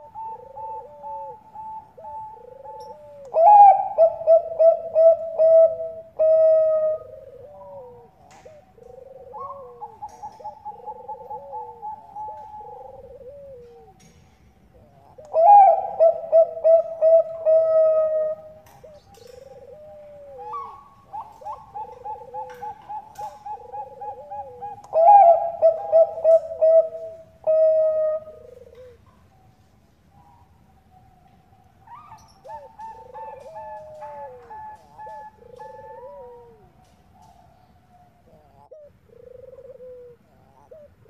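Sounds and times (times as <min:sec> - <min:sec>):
dove cooing: 0:00.0 - 0:41.0.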